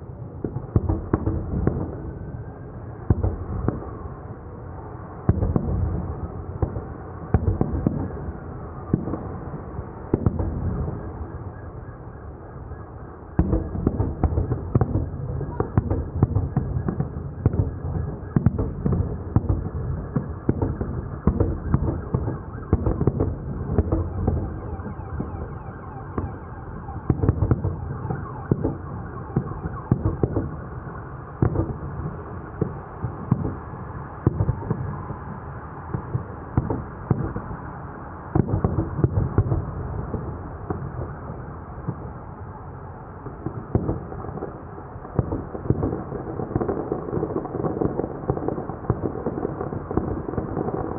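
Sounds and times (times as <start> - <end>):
continuous low rumble: 0.0 - 50.9
fireworks booms and bangs: 0.2 - 50.9.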